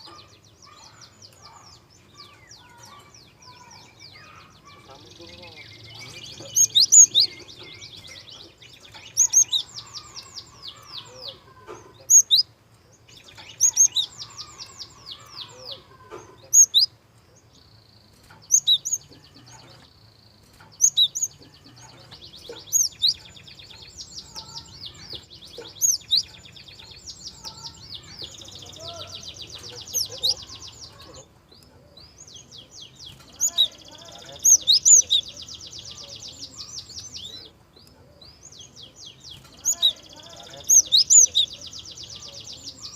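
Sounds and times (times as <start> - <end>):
songbird trilling: 0.0 - 42.9.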